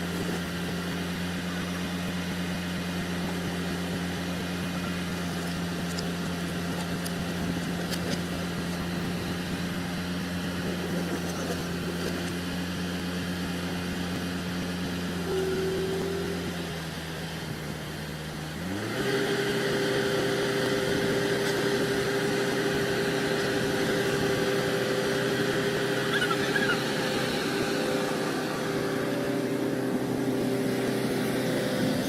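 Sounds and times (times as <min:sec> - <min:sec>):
diesel engine revving: 0:00.0 - 0:32.0.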